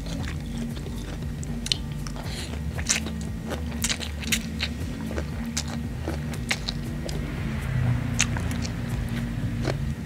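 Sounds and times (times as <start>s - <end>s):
low hum: 0.0s - 10.0s
man chewing noodles: 0.0s - 10.0s
noodles slurped: 0.0s - 10.0s.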